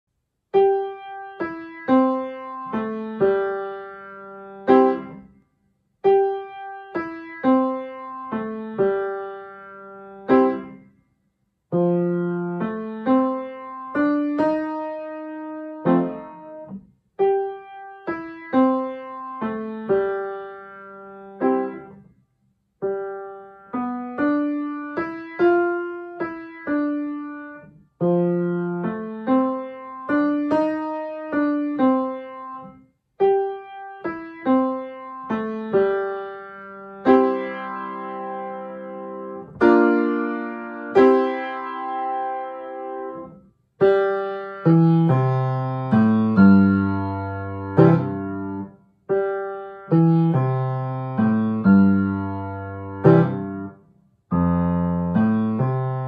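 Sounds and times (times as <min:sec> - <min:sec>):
slow gentle piano piece: 0:00.5 - 0:05.4, 0:06.0 - 0:11.0, 0:11.6 - 0:22.1, 0:22.7 - 0:56.0.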